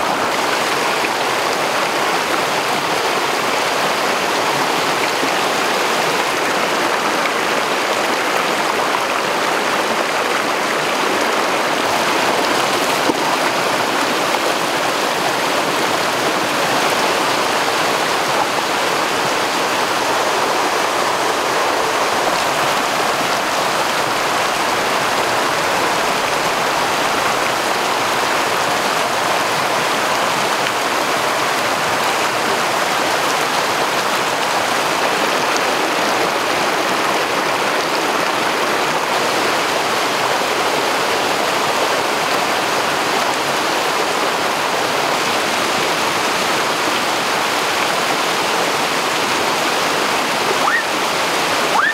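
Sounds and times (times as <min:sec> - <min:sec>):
stream water splashing over rocks: 0:00.0 - 0:51.9.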